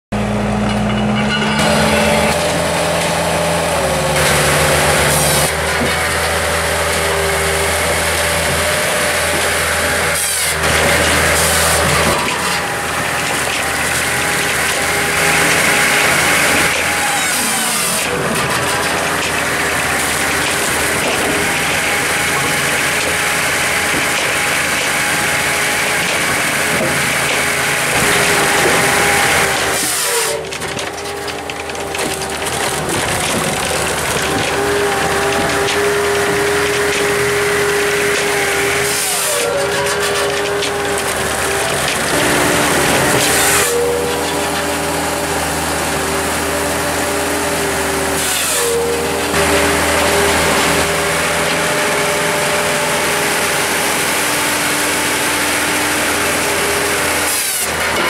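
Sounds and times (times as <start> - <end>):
firewood processor engine running: 0.0 - 58.0
logs splitting: 0.2 - 58.0.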